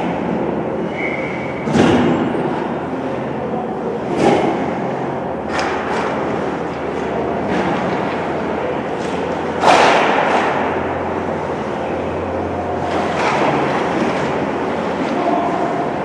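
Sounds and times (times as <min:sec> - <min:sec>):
steady background din: 0:00.0 - 0:16.0.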